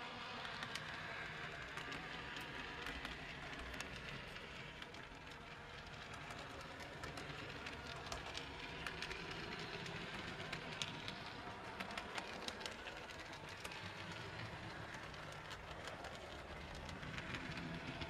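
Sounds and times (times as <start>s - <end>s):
wheels clicking on rails: 0.0s - 18.0s.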